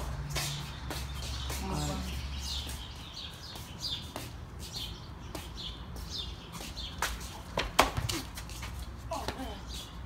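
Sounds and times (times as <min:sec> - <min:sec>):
footsteps on concrete: 0:00.0 - 0:10.0.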